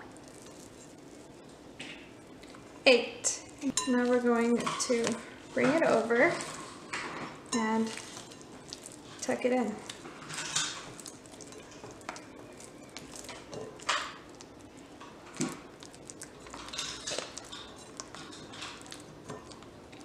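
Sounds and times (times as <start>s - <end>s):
hands working wet dough: 0.0s - 1.3s, 3.9s - 20.0s.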